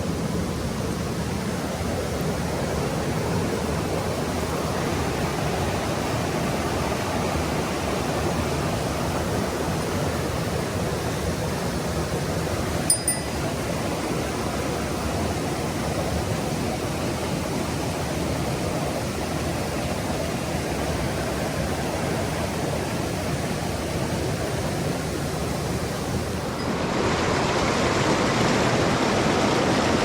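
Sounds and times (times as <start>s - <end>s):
water rushing over rocks: 0.0s - 30.0s.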